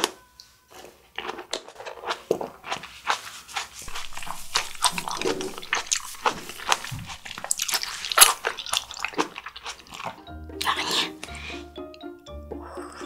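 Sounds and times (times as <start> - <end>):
grapes crunching while chewed: 0.0 - 11.5.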